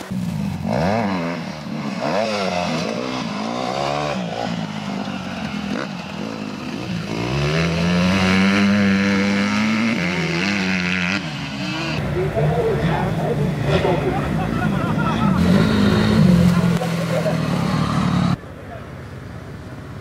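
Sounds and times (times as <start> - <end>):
motocross bike engines revving: 0.0 - 18.4.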